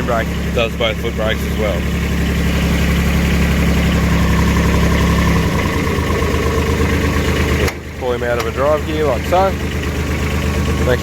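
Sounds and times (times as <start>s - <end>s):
small dumper engine idling: 0.0s - 11.0s.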